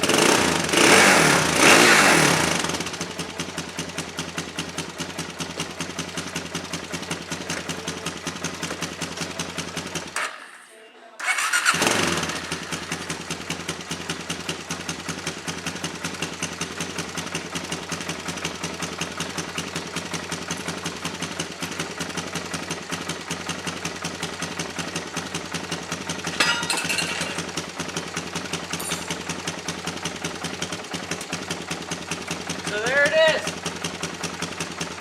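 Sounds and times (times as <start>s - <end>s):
atv engine idling: 0.0s - 10.3s, 11.2s - 35.0s.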